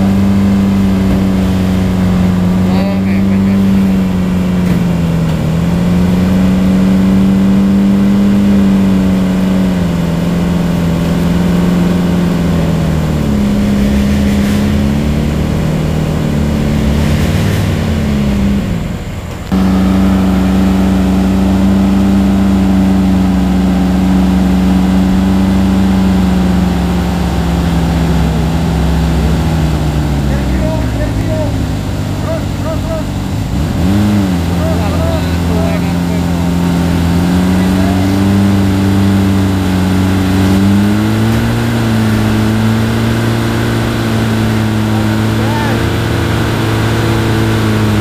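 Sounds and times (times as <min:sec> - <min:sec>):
vehicle engine revving: 0:00.0 - 0:48.0.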